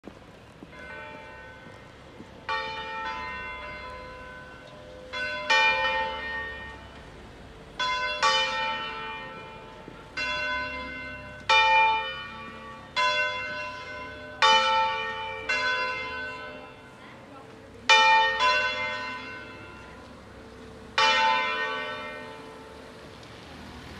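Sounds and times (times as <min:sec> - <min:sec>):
church bells ringing: 0:00.6 - 0:23.0.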